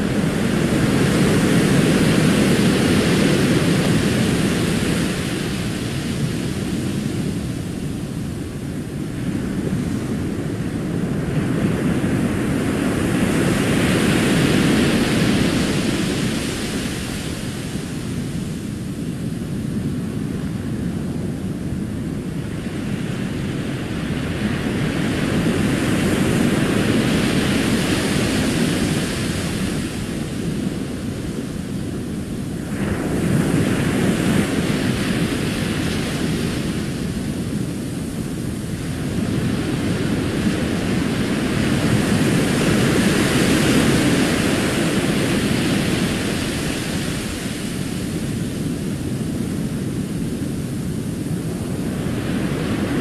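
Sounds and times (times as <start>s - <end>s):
ocean waves washing up beach: 0.0s - 53.0s.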